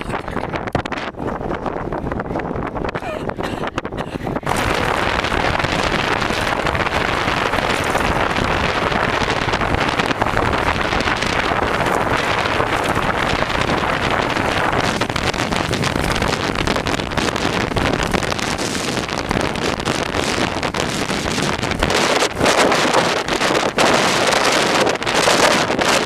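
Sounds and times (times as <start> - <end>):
road and vehicle noise: 0.0 - 26.0
wind buffeting microphone: 0.0 - 26.0.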